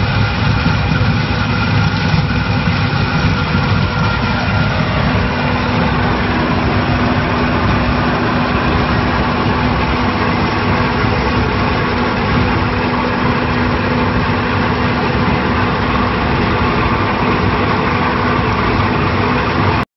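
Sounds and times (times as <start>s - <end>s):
constant low hum: 0.0s - 19.8s
crusher machinery running: 0.0s - 19.8s.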